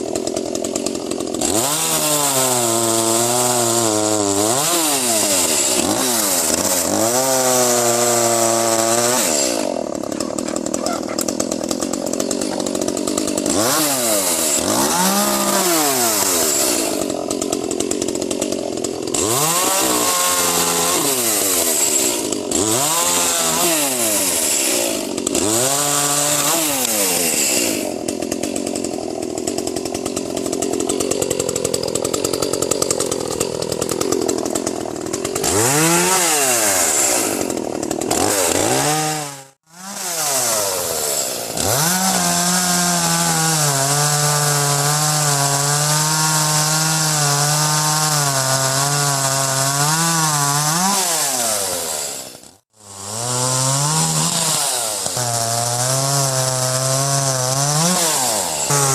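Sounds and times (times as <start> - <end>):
chainsaw revving while cutting wood: 0.0 - 58.9.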